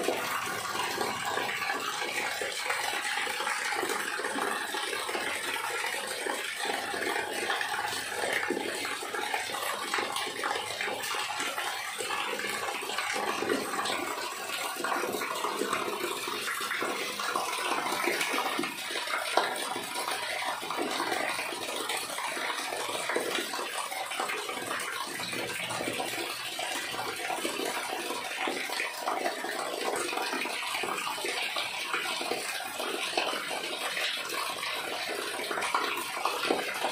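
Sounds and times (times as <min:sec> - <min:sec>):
water splashing into drain: 0:00.0 - 0:36.9.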